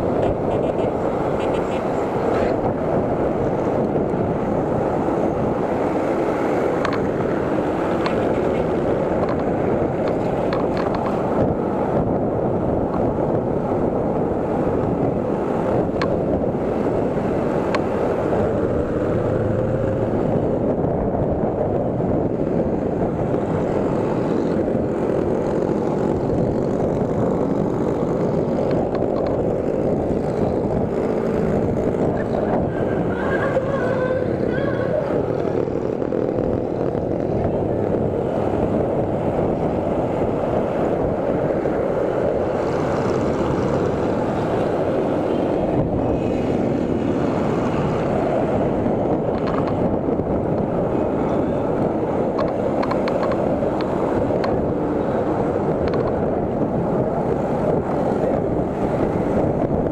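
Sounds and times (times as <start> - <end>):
road noise: 0.0 - 59.9
wind noise on microphone: 0.0 - 59.9.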